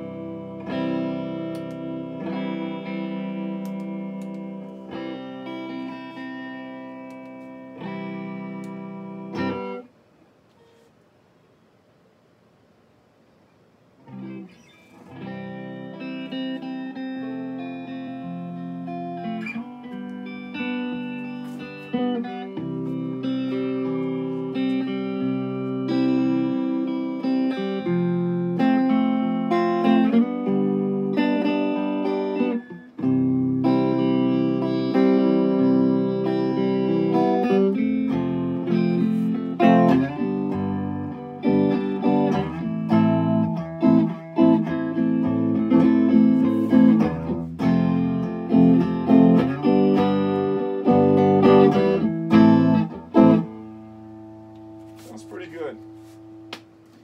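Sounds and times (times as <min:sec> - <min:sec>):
clean electric guitar chords: 0:00.0 - 0:09.9, 0:14.1 - 0:57.0.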